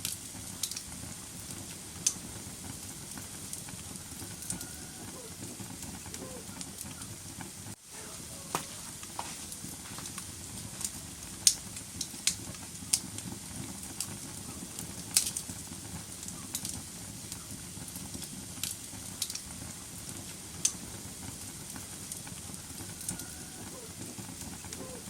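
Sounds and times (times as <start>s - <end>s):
burning logs crackling and popping: 0.0s - 25.0s
fire flames rumbling: 0.0s - 25.0s.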